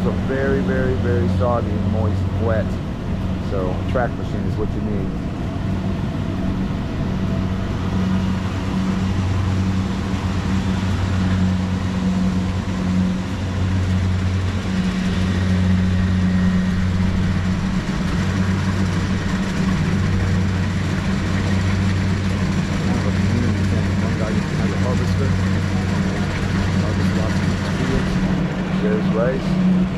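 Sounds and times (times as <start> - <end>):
combine harvester engine hum: 0.0 - 29.9.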